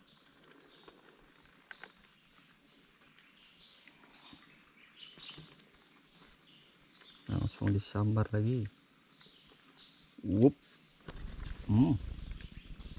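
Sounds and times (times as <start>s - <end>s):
insect chorus drone: 0.0s - 12.9s.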